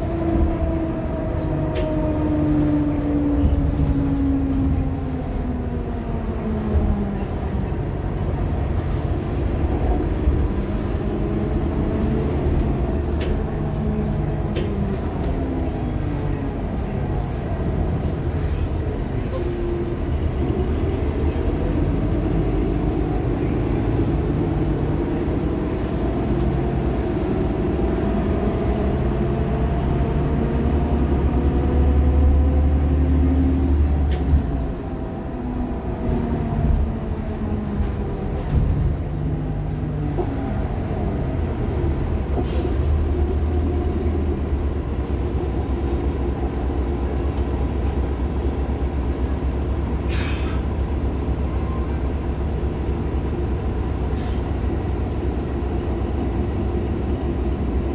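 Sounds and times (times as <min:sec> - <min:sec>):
bus engine rumbling and whining: 0:00.0 - 0:57.9.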